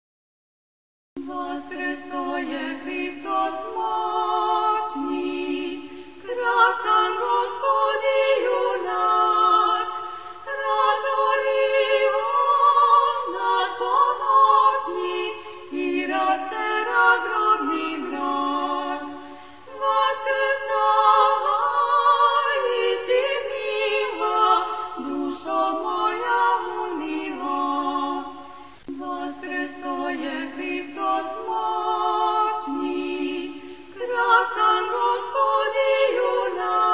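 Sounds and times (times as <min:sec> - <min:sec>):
unaccompanied choir singing: 0:01.2 - 0:36.9.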